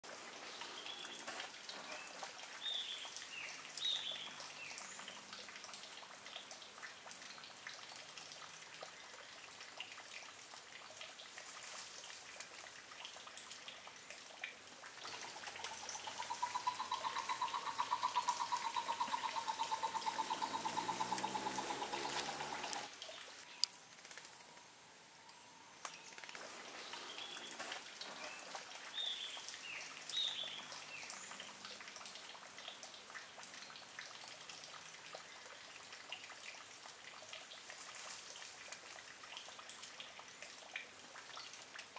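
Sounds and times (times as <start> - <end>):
water splashing and dripping: 0.0 - 24.7, 25.8 - 41.9.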